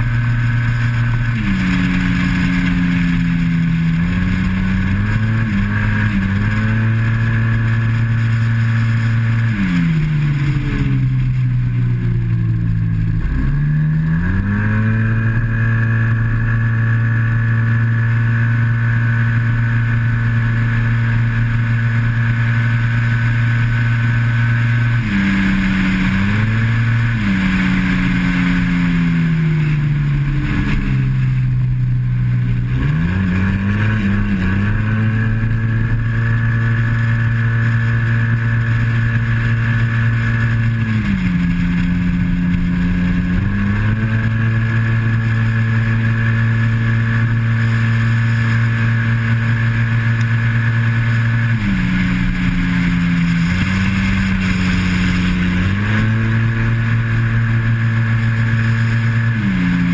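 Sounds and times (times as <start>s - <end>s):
scooter engine at full throttle: 0.0s - 59.9s.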